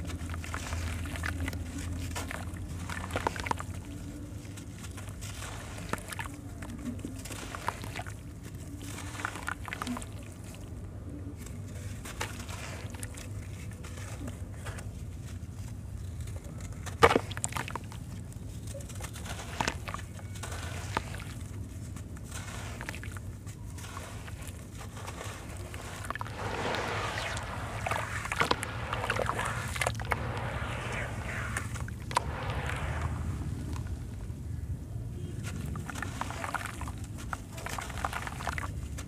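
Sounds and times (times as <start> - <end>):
wet blocks crunching and crumbling: 0.0 - 10.8, 16.0 - 34.7, 35.4 - 39.0
water sloshing and splashing: 0.0 - 39.0.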